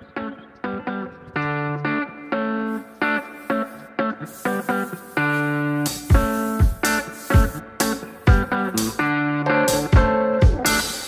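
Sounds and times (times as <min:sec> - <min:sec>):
guitar plucking notes: 0:00.0 - 0:11.0.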